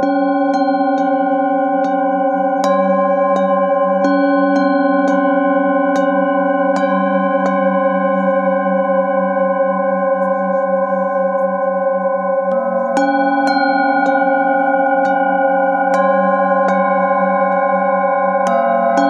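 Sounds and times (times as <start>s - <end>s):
singing bowl tones ringing: 0.0s - 19.0s
singing bowls struck with mallet: 0.0s - 19.0s.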